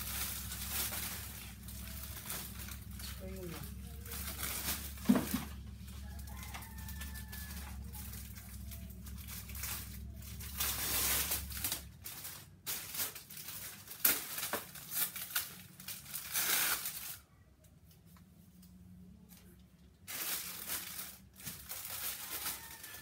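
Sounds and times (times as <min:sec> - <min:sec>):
plastic bags crinkling: 0:00.0 - 0:17.3, 0:19.3 - 0:23.0.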